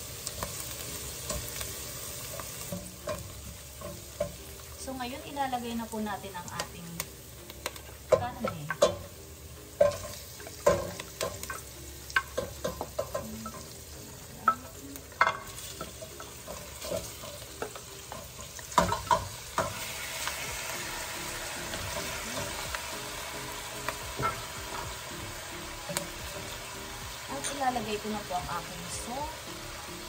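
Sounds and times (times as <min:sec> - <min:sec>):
meat sizzling in oil: 0:00.0 - 0:30.0.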